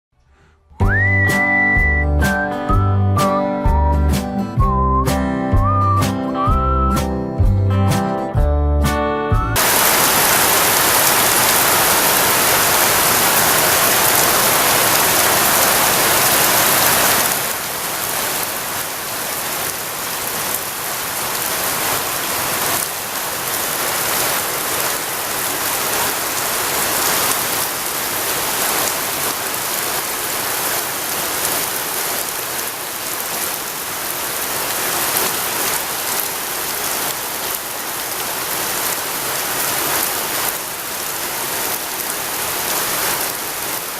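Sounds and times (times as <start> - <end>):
heavy rain falling: 0.8 - 6.1, 9.6 - 43.9.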